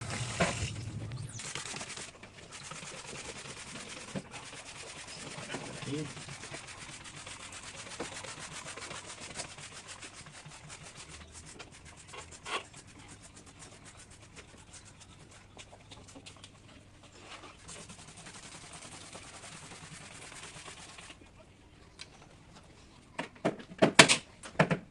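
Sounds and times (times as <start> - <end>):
scrubbing a surface by hand: 0.0 - 21.2.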